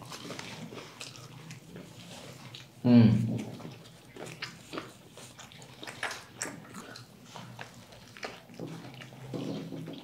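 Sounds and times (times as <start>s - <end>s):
chewing and lip smacking: 0.0s - 10.0s.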